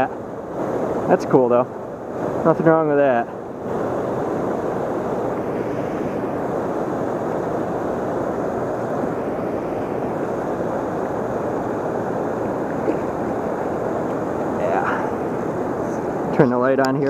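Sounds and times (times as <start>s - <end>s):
rushing river water: 0.0s - 17.0s.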